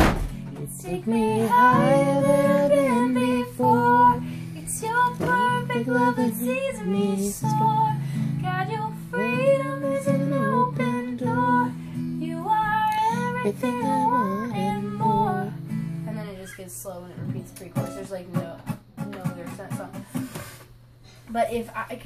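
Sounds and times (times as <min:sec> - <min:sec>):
acoustic guitar strumming: 0:00.0 - 0:20.6
woman singing: 0:00.1 - 0:18.2.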